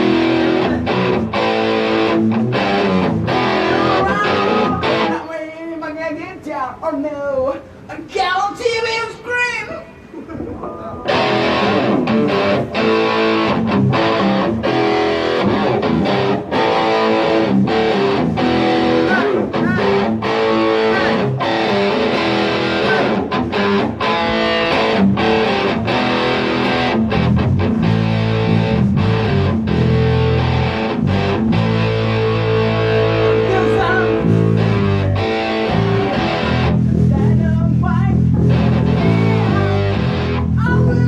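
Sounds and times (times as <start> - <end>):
distorted electric guitar: 0.0 - 5.3, 10.7 - 41.0.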